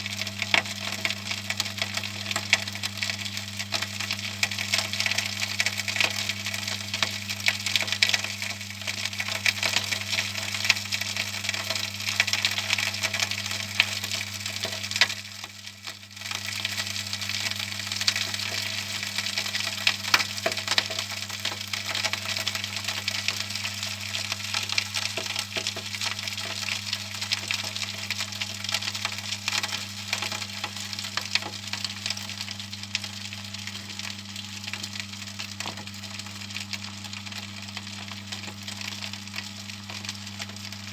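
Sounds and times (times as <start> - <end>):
crackling and crunching: 0.0 - 40.9.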